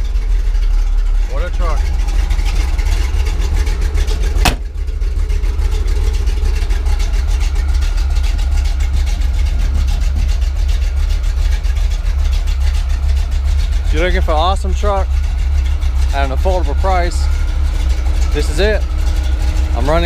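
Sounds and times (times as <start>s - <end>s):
car engine idling with deep rumble: 0.0s - 20.0s.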